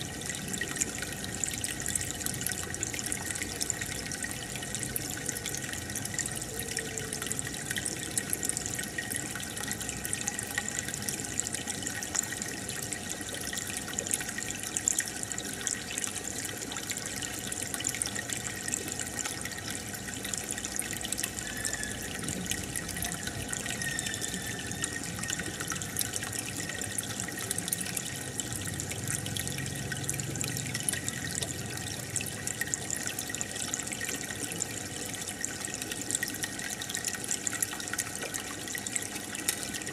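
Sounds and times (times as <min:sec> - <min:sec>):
aquarium water bubbling: 0:00.0 - 0:39.9
filter water running: 0:00.0 - 0:39.9.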